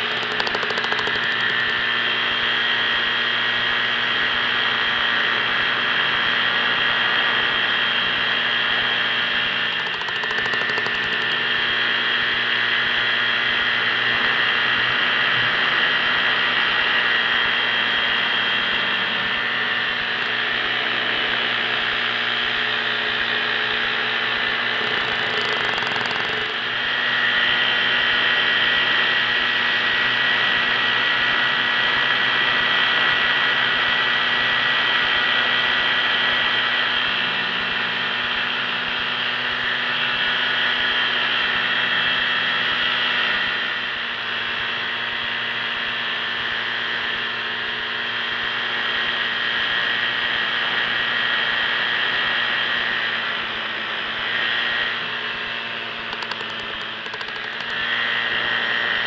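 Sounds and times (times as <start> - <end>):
paramotor engine droning: 0.0 - 59.0.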